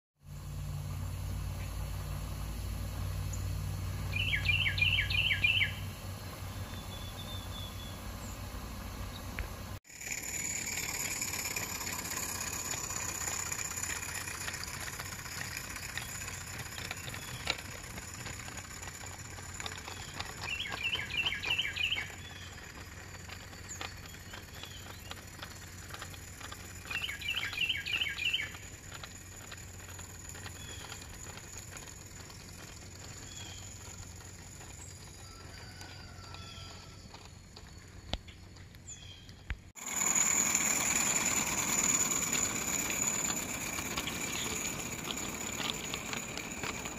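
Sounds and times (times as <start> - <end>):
songbird singing: 0.4 - 9.7, 13.8 - 39.7, 43.6 - 46.9
faint clicking of model locomotive: 9.0 - 46.9.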